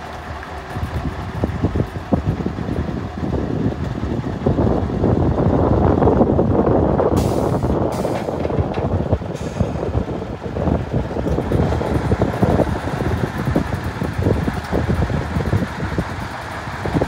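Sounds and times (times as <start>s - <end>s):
diesel truck engine pulling away: 0.0s - 17.0s.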